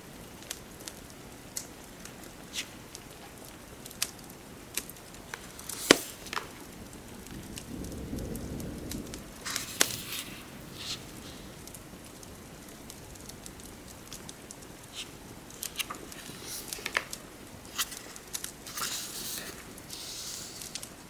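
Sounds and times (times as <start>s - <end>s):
faint steady hiss: 0.0s - 21.0s
wood fire crackling and popping: 0.0s - 21.0s.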